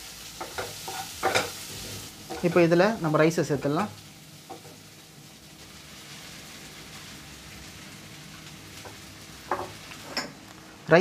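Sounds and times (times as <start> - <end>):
pan sizzling on stove: 0.0 - 11.0.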